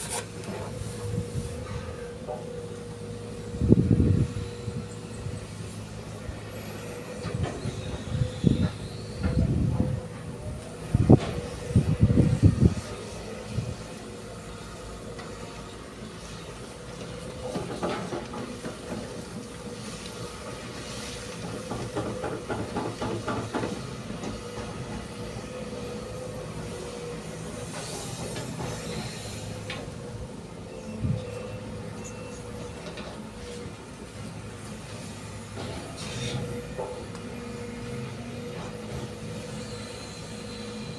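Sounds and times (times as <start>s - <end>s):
diesel machinery running: 0.0s - 40.9s.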